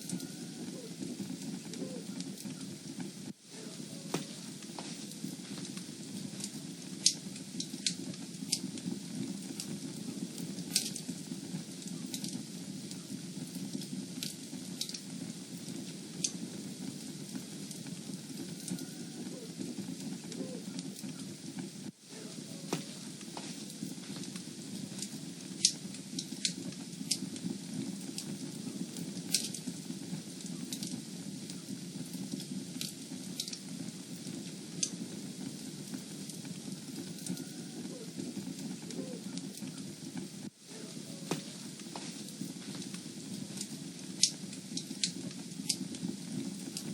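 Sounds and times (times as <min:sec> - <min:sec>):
fire crackling: 0:00.0 - 0:46.9
fire popping: 0:00.0 - 0:46.9.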